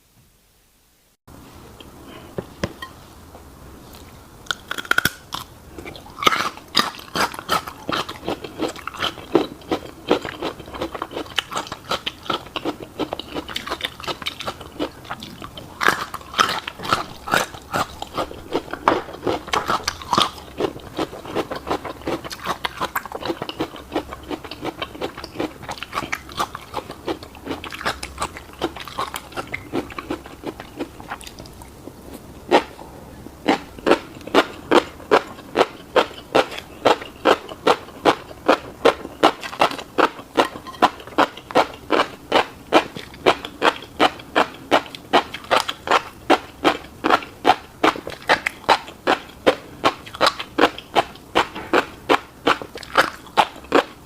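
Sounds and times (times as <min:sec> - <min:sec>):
close chewing crunches: 0:03.9 - 0:54.0.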